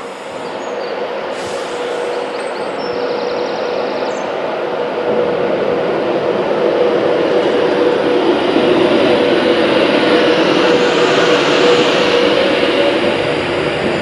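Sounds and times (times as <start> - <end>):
electric train approaching: 0.0 - 14.0.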